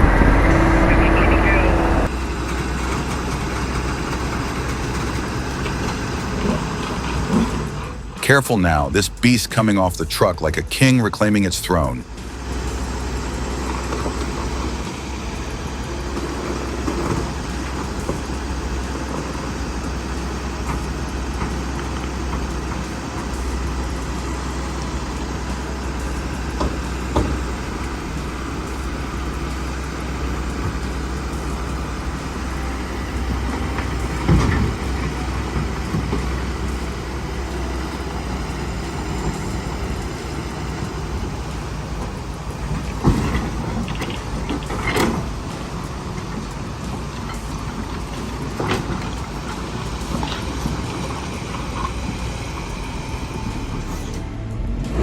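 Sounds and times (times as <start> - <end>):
heavy vehicle engine rumbling: 0.0 - 55.0.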